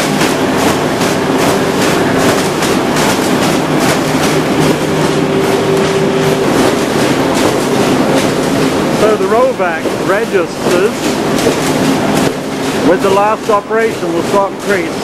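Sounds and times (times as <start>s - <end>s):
machine hum: 0.0s - 15.0s
rapid even machine clatter: 0.0s - 15.0s.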